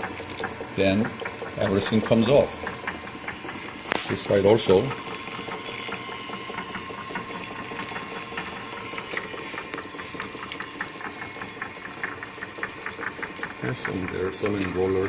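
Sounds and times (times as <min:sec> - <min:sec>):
machine motor hum: 0:00.0 - 0:15.0
rhythmic machine clicking: 0:00.0 - 0:15.0.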